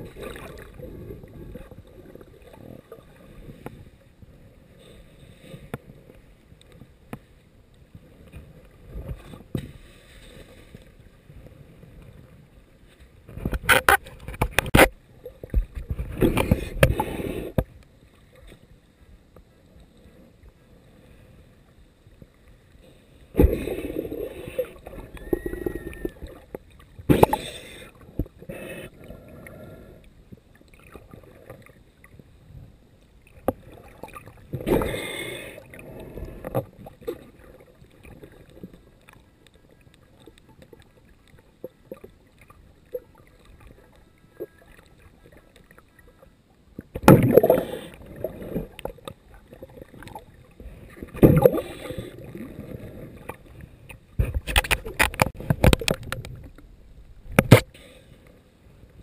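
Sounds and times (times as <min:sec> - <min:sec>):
underwater crackling and ticking: 0:00.0 - 0:12.6, 0:13.2 - 0:18.7, 0:19.4 - 0:59.0.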